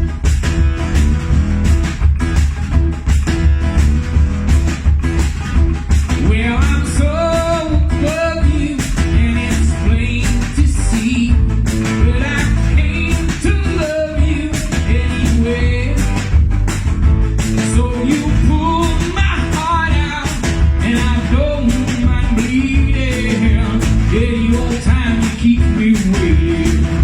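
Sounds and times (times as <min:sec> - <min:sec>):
electric guitar: 0:00.0 - 0:27.0
steady drum beat: 0:00.0 - 0:27.0.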